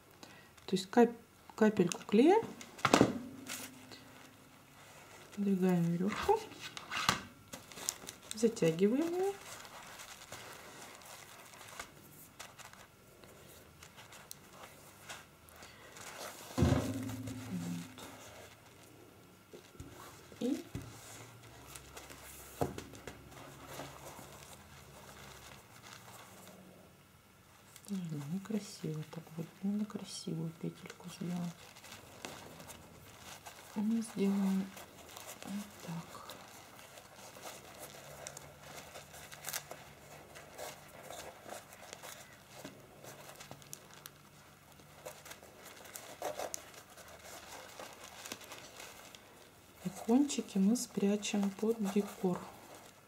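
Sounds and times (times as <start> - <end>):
low steady hum: 0.0 - 53.0
faint rope rustling: 1.5 - 53.0.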